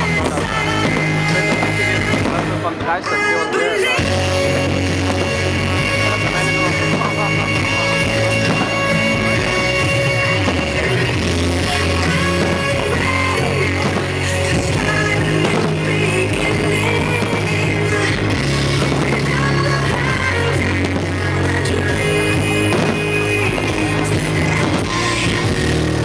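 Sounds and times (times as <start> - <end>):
rock music with bass line: 0.0 - 26.0.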